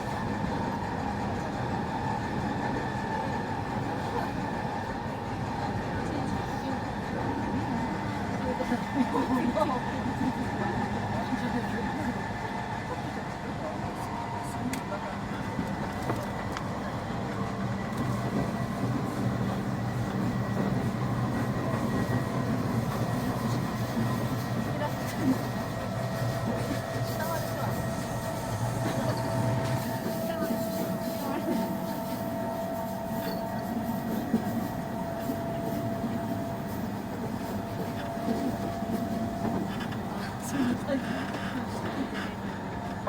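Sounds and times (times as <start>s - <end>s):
train hum: 0.0s - 43.0s
train wheels rumbling on rails: 0.0s - 43.0s.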